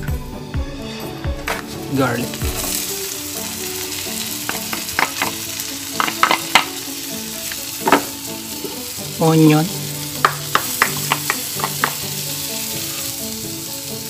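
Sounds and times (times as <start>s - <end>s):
garlic sizzling in a frying pan: 1.4s - 14.0s.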